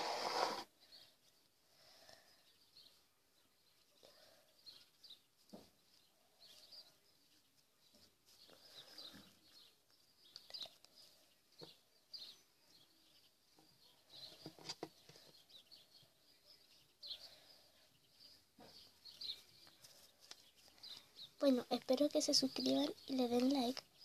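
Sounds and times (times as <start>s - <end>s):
faint bird chirps: 0.8s - 24.0s.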